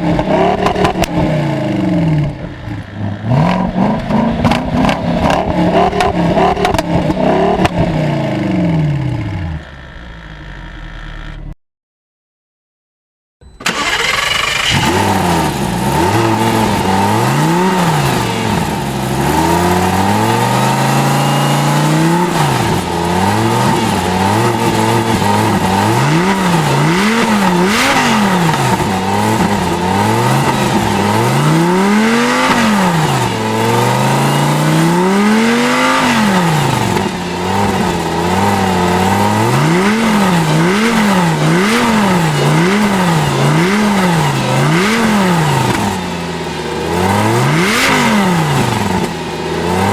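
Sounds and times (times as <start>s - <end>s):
sports car engine revving: 0.0s - 11.5s, 13.6s - 49.9s.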